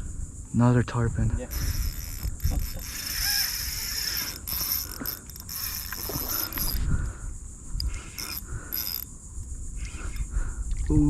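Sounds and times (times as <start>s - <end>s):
high-pitched insect buzzing: 1.4s - 11.0s.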